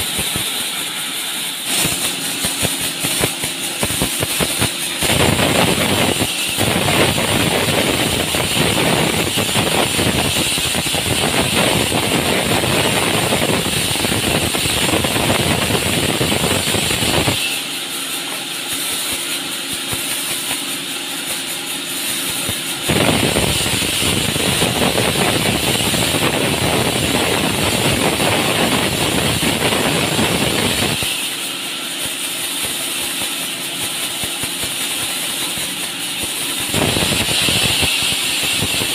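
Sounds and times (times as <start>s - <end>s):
band saw cutting log: 0.0s - 38.9s
machine humming: 0.0s - 38.9s.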